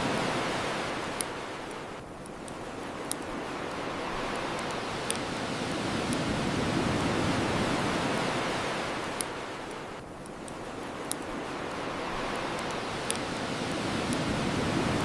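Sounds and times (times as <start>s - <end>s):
bonfire crackles: 0.0s - 15.0s
ocean surf washing on shore: 0.0s - 15.0s.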